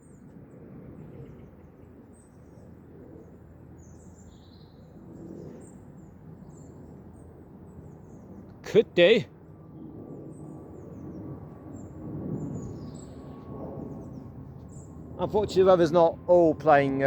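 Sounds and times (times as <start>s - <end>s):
jet plane rumble overhead: 0.0s - 17.0s.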